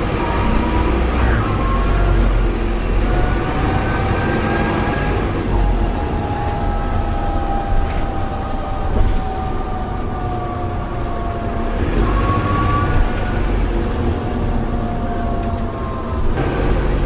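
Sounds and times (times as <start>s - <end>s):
low rumble of running bus: 0.0s - 17.0s.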